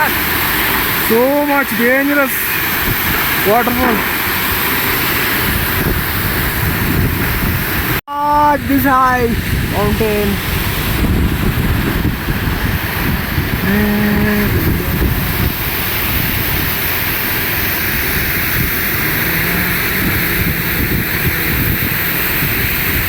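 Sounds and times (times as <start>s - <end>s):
waterfall rushing: 0.0s - 23.0s
wind buffeting microphone: 2.6s - 23.0s.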